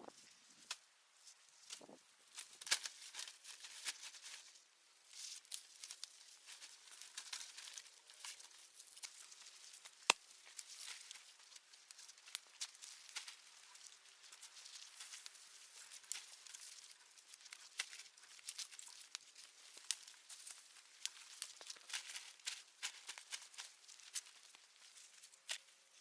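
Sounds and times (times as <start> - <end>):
dry wood and leaves crackling: 0.0 - 26.0.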